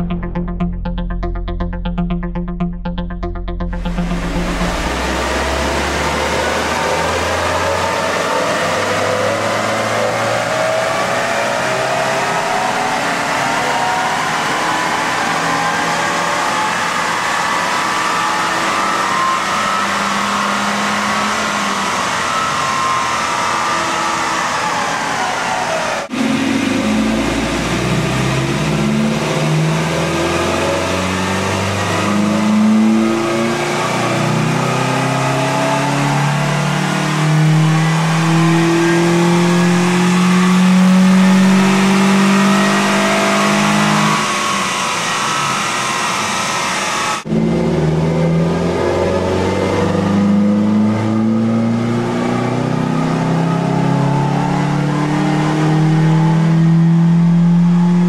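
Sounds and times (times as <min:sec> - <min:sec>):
car engine revving: 0:03.7 - 0:58.0.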